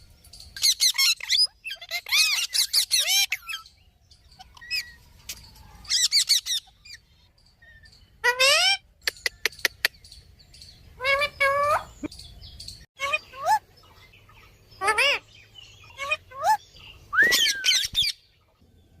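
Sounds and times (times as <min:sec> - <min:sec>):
parakeet chirping calls: 0:00.6 - 0:05.1, 0:05.8 - 0:18.2.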